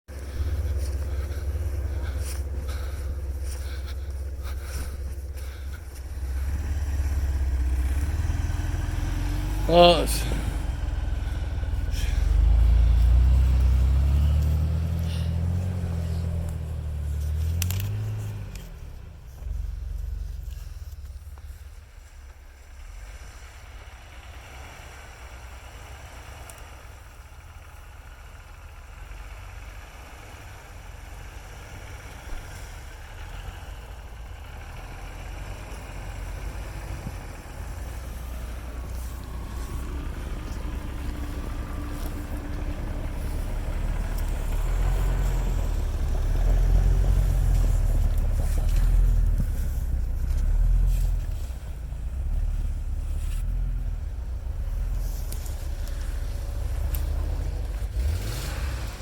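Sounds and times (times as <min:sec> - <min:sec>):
engine rumbling at low speed: 0:00.0 - 0:59.0.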